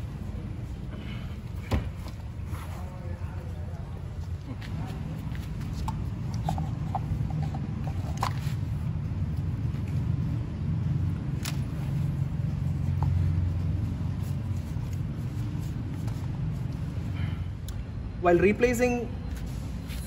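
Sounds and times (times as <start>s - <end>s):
low background rumble: 0.0s - 18.5s.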